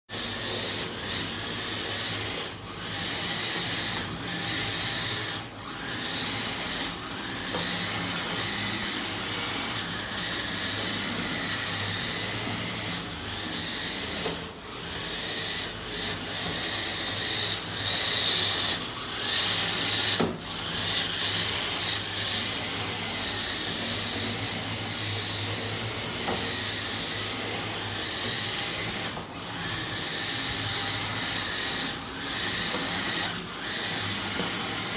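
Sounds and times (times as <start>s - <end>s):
toy train motor whirring: 0.1s - 34.9s.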